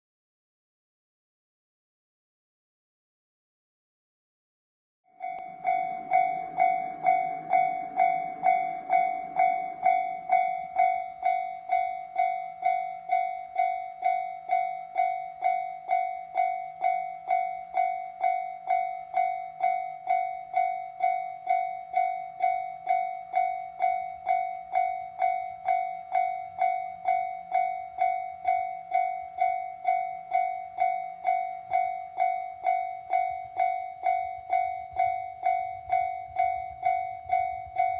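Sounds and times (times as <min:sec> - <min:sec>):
level crossing warning bell: 0:05.1 - 0:37.9.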